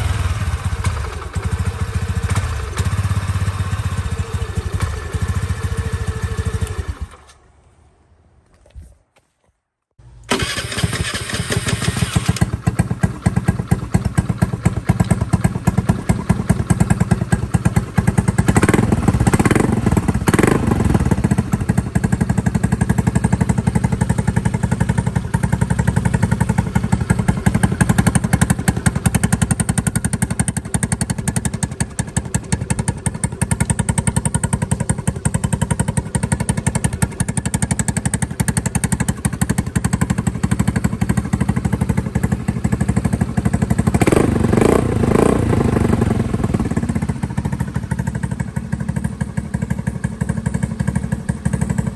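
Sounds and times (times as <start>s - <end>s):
motorcycle engine idling: 0.0s - 7.4s, 10.0s - 51.9s.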